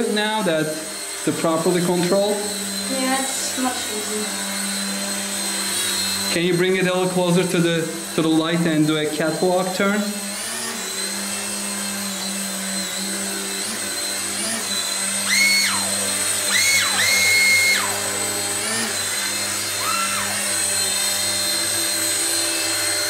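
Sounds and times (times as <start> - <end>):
rotor hum: 0.0 - 22.9
rc helicopter motors whining: 0.0 - 23.0.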